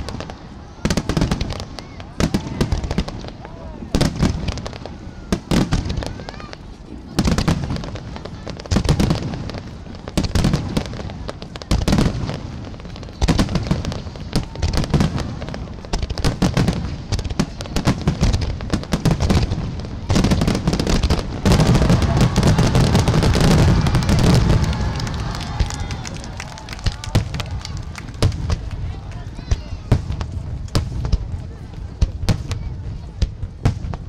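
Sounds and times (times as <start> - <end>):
firework shells booming: 0.0 - 34.0
fireworks crackling: 0.0 - 34.0.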